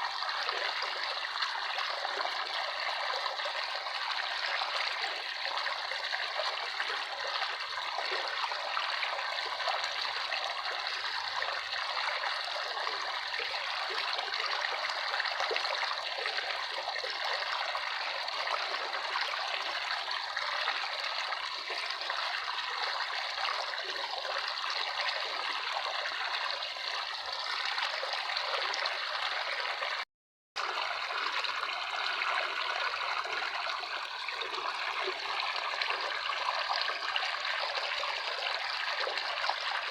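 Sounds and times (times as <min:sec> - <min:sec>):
water trickling and splashing: 0:00.0 - 0:30.0, 0:30.6 - 0:39.9.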